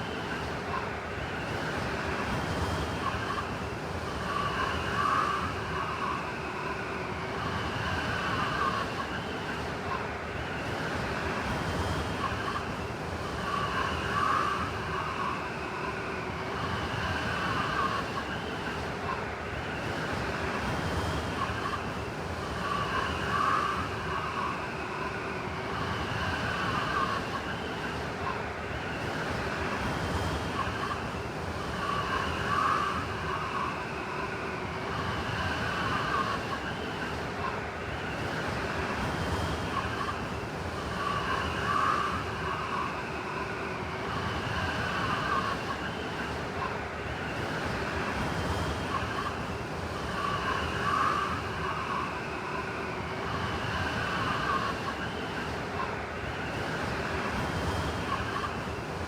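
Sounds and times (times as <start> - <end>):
high whistling wind gusts: 0.0 - 59.0
blizzard wind blowing: 3.0 - 59.0.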